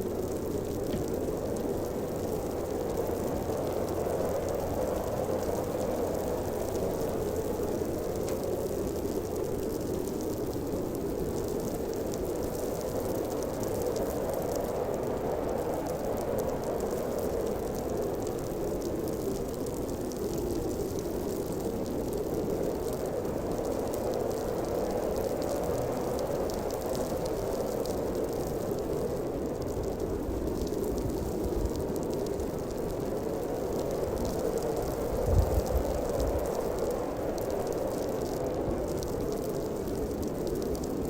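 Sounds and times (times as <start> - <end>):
howling blizzard wind: 0.0 - 41.0.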